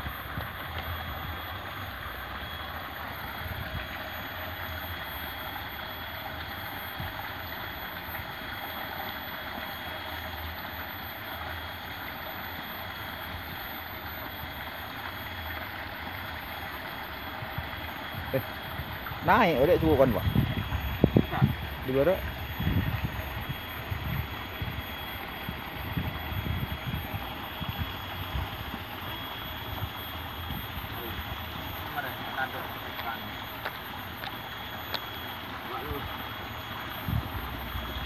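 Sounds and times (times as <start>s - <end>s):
water pouring over a weir: 0.0s - 38.0s.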